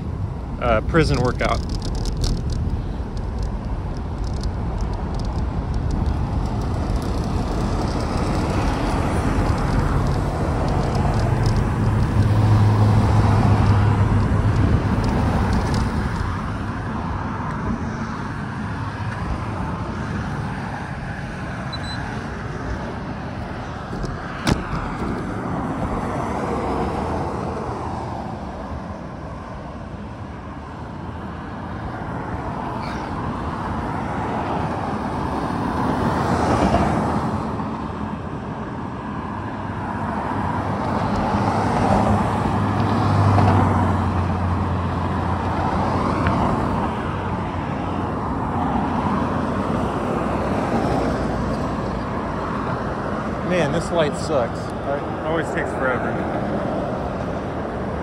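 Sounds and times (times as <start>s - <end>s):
cars passing on a street: 0.0s - 58.0s
vehicle engine hum: 0.0s - 58.0s.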